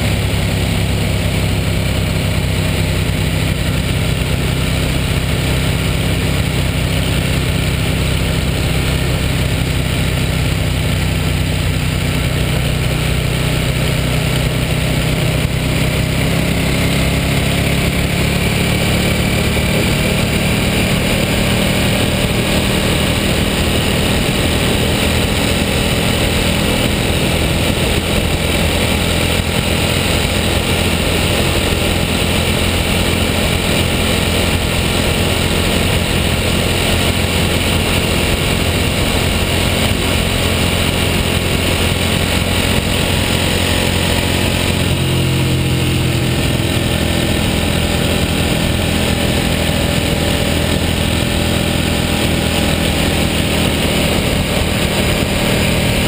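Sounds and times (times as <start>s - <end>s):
motorcycle engine at speed: 0.0s - 56.0s
wind and road noise: 0.0s - 56.0s.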